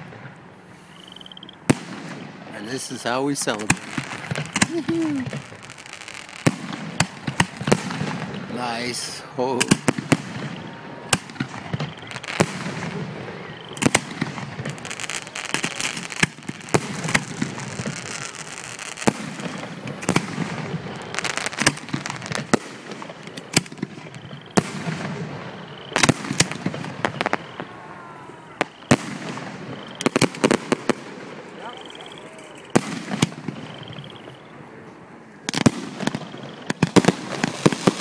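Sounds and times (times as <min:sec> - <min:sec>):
firework shells bursting: 0:00.0 - 0:27.8, 0:28.5 - 0:34.4, 0:35.5 - 0:38.0
fireworks crackling and rumbling: 0:00.0 - 0:38.0.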